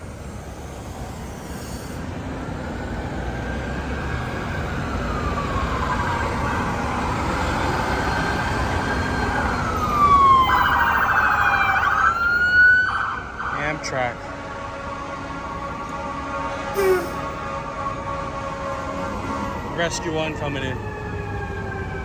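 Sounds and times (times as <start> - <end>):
low traffic rumble: 0.0 - 22.0
siren wailing: 0.0 - 22.0
rapid warbling siren: 4.3 - 22.0.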